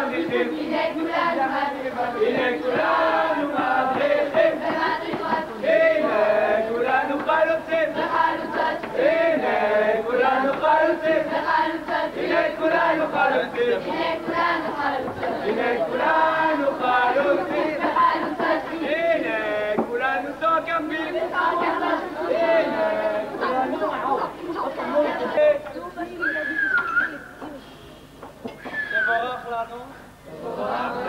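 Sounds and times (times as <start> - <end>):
group singing and chanting: 0.0 - 26.2, 30.1 - 31.0.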